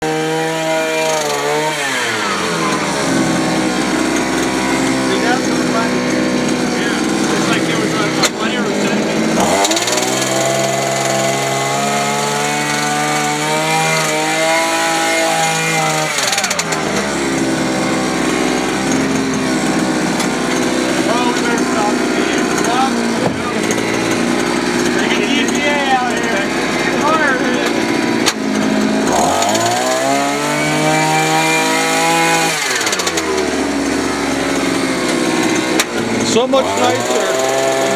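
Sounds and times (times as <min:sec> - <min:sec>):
jackhammer breaking clay: 0:00.0 - 0:37.9
small engine running steadily: 0:00.0 - 0:37.9.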